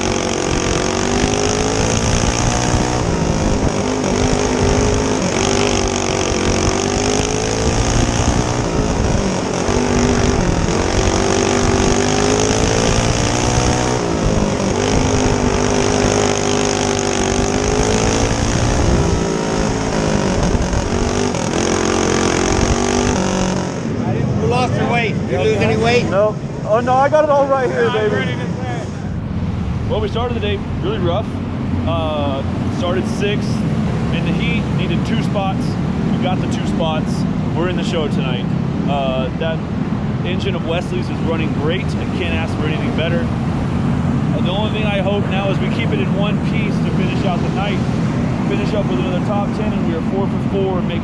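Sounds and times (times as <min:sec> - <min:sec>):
go-kart engines racing: 0:00.0 - 0:51.0.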